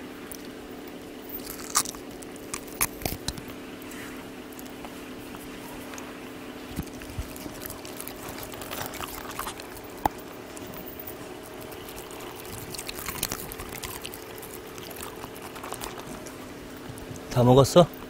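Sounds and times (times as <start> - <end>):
steady low hum: 0.0 - 18.0
dogs chewing and smacking: 0.3 - 18.0.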